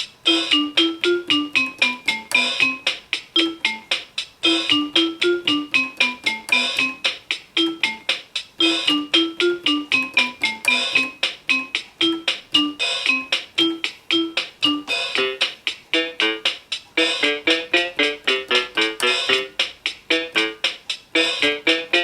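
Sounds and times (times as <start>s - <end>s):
clicking rhythm box beat: 0.0s - 22.0s
toy keyboard playing pop melody: 0.0s - 22.0s.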